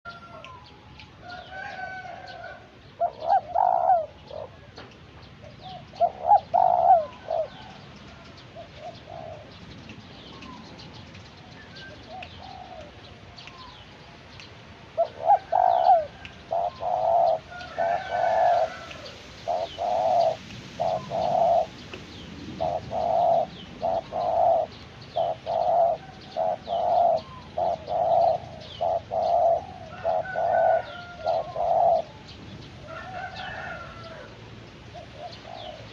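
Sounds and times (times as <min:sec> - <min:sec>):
small birds chirping: 0:00.1 - 0:35.9
dove cooing: 0:01.3 - 0:04.8, 0:05.4 - 0:09.7, 0:11.7 - 0:13.8, 0:14.9 - 0:21.9, 0:22.5 - 0:35.9.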